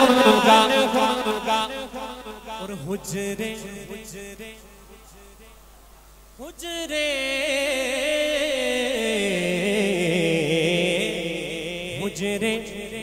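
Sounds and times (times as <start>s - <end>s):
man singing through microphone: 0.0s - 5.6s, 6.4s - 13.0s.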